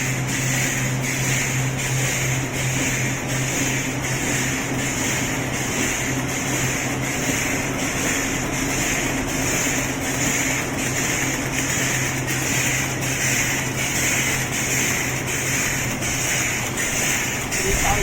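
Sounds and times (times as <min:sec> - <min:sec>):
packing machine running: 0:00.0 - 0:18.0.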